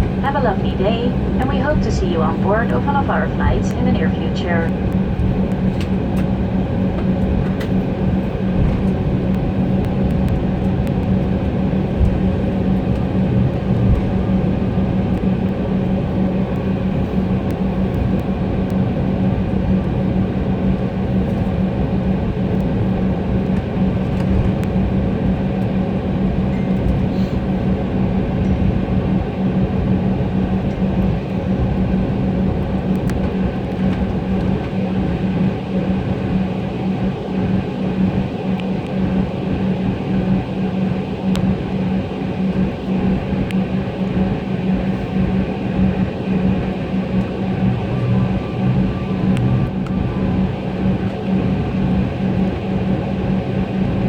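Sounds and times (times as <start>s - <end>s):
jet engines idling hum: 0.0s - 54.0s
low cabin rumble: 0.0s - 54.0s.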